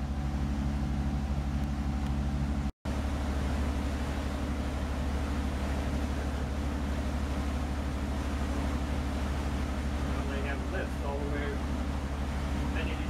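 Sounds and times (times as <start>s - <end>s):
boat engine drone: 0.0s - 13.0s
water and wind rushing: 0.0s - 13.0s.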